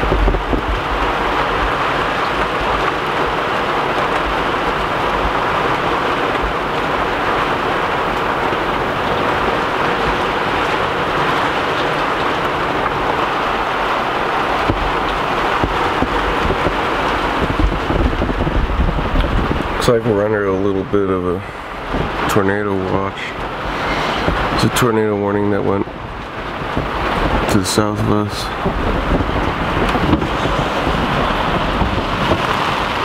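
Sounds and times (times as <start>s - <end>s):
heavy rain downpour: 0.0s - 33.0s
wind buffeting microphone: 0.0s - 33.0s.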